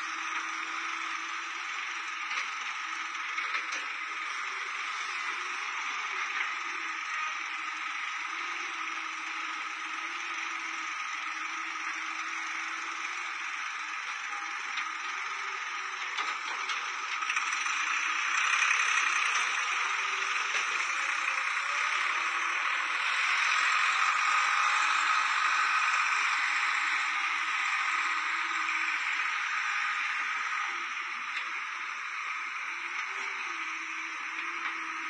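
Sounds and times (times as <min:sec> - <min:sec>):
excavator diesel engine running: 0:00.0 - 0:35.0
rattle: 0:00.0 - 0:35.0.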